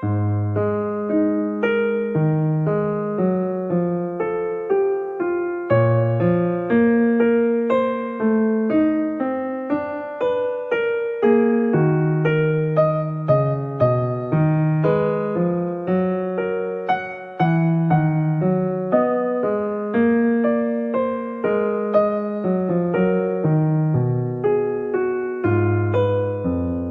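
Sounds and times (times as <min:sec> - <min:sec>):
slow solo piano music: 0:00.0 - 0:26.9.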